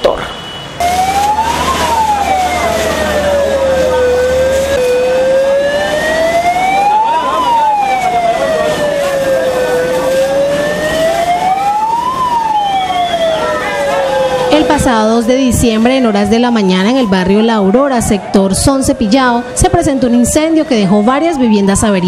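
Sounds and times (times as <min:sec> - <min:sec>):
steady rushing background noise: 0:00.0 - 0:21.4
fire truck siren wailing: 0:00.0 - 0:22.0.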